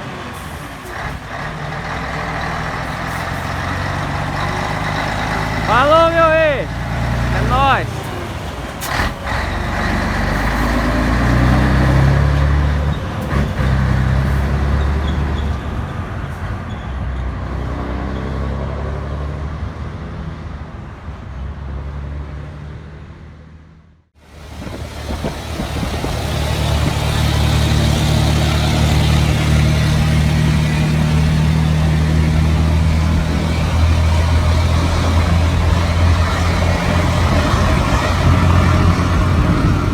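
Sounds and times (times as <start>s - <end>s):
truck diesel engine rumbling: 0.0s - 22.1s, 24.2s - 39.9s.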